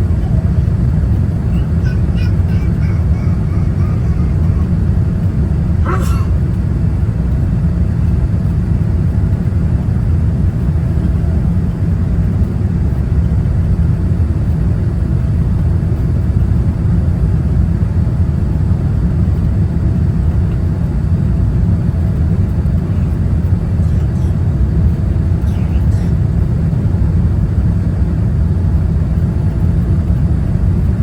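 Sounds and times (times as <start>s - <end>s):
airplane cabin engine rumble: 0.0s - 31.0s.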